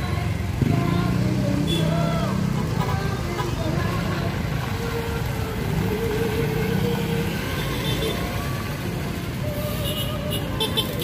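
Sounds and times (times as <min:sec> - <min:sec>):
engine and traffic rumble: 0:00.0 - 0:11.0.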